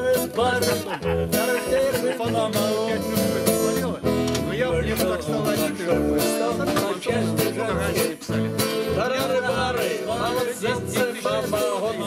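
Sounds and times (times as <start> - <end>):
live band playing: 0.0 - 11.8
man singing: 0.0 - 12.0.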